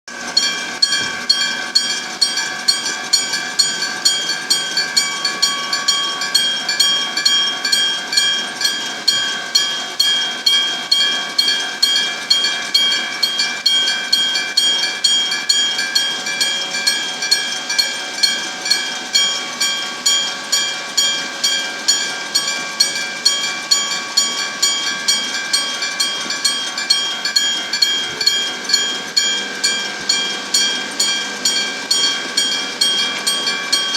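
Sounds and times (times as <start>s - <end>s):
level crossing warning bell ringing: 0.1s - 33.9s.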